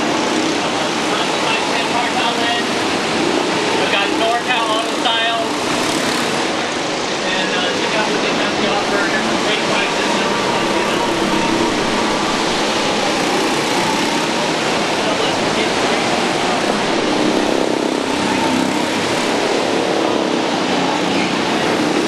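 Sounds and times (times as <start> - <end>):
constant rushing noise: 0.0 - 22.0
indistinct crowd voices: 0.0 - 22.0.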